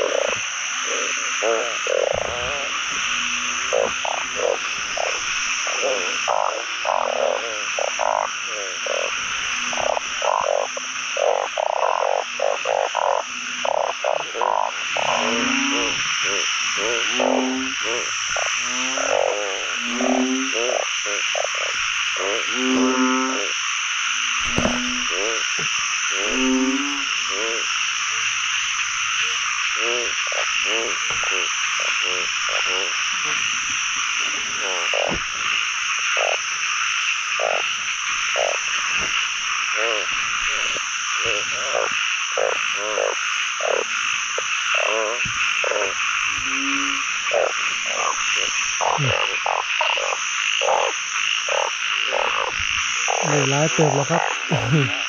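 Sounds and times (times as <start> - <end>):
frogs croaking: 0.0 - 55.0
frogs trilling: 0.0 - 55.0.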